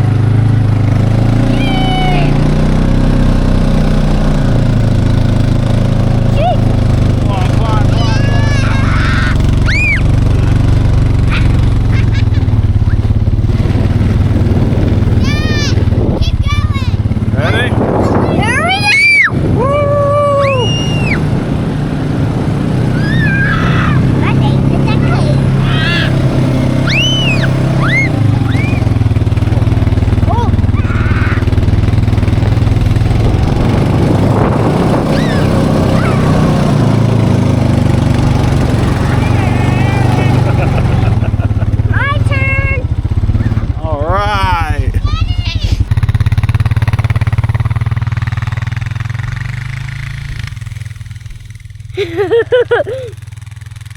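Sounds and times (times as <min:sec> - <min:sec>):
quad engine running: 0:00.0 - 0:53.9.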